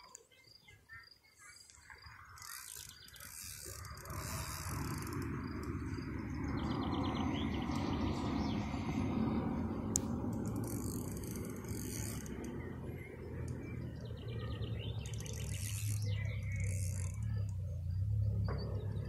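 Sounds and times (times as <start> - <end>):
fishing reel whirring: 1.5 - 18.3.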